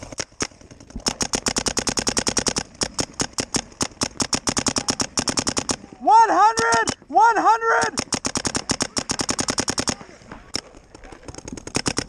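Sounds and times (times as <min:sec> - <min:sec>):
paintball marker firing: 0:00.0 - 0:07.0, 0:07.8 - 0:12.0.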